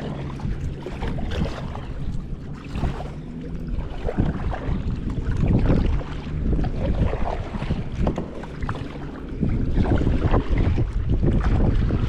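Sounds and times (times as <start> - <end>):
canoe moving through water: 0.0 - 12.0
wind rumbling on microphone: 0.0 - 12.0.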